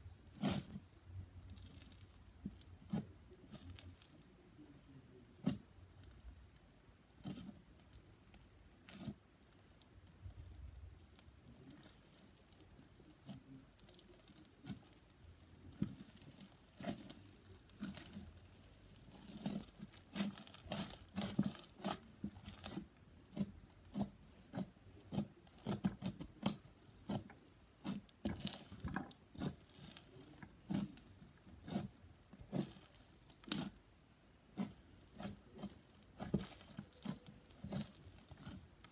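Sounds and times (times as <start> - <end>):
crunchy slime crackles and squishes: 0.0 - 38.9.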